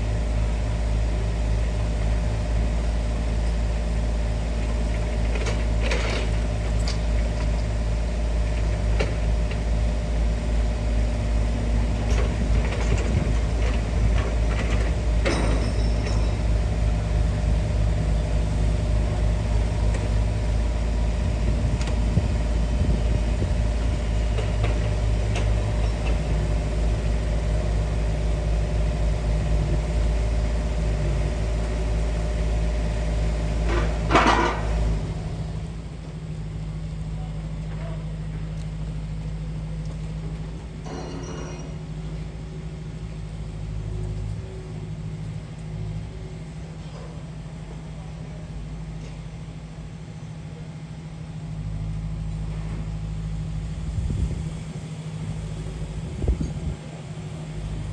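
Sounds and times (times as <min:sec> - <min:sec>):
large engine idling: 0:00.0 - 0:57.9.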